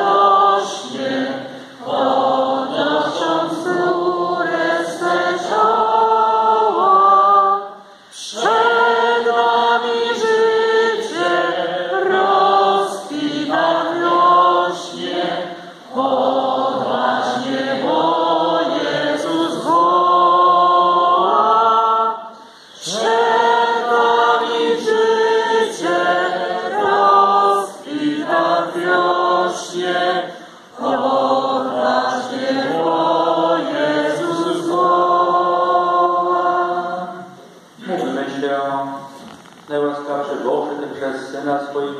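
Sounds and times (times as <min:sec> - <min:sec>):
congregation singing a hymn: 0:00.0 - 0:39.1.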